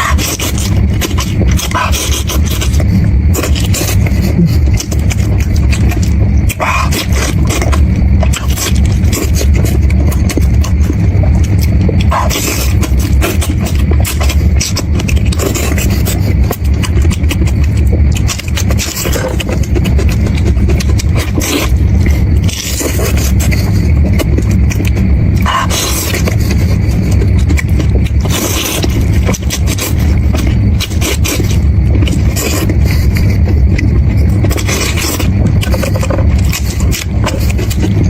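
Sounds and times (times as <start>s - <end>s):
scraping and clicking: 0.0s - 38.0s
steady low rumble: 0.0s - 38.0s.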